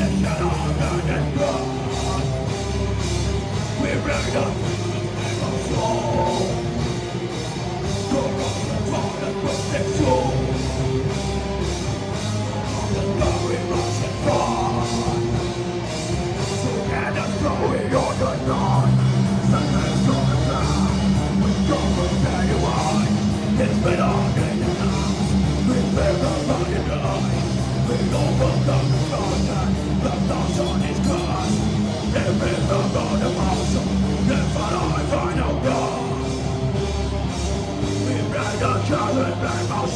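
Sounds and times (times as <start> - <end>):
fast dense drumming: 0.0 - 39.9
live heavy rock band: 0.0 - 39.9.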